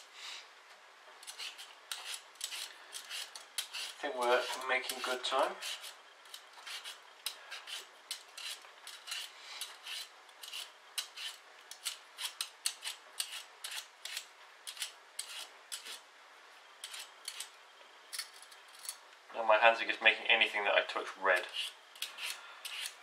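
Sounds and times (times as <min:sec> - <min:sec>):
peeler scraping potato skin: 0:01.2 - 0:16.0, 0:16.8 - 0:19.0, 0:21.3 - 0:23.0.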